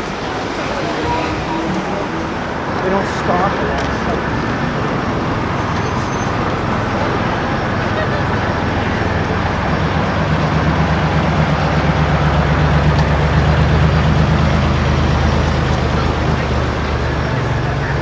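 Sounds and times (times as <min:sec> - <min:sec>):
city traffic noise: 0:00.0 - 0:18.0
vehicle engine rumbling: 0:00.0 - 0:18.0.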